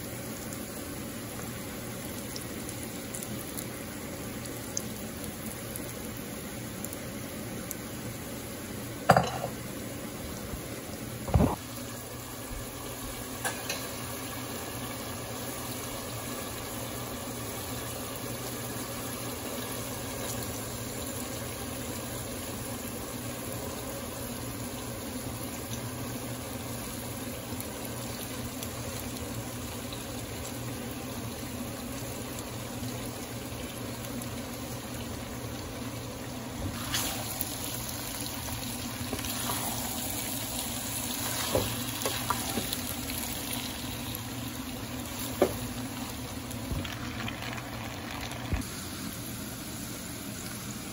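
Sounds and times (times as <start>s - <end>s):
food sizzling in a pan: 0.0s - 50.9s.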